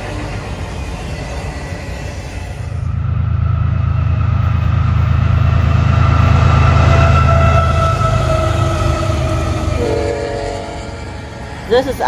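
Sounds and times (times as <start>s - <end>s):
diesel locomotives rumbling: 0.0s - 12.0s
freight train rolling past: 0.0s - 12.0s.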